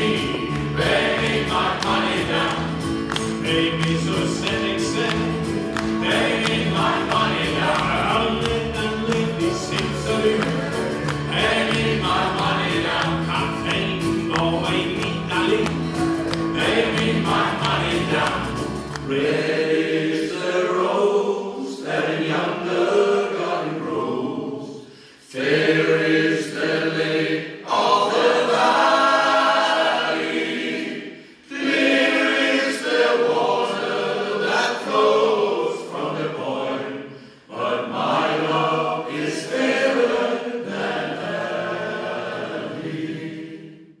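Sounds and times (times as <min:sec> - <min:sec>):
male choir singing: 0:00.0 - 0:44.0.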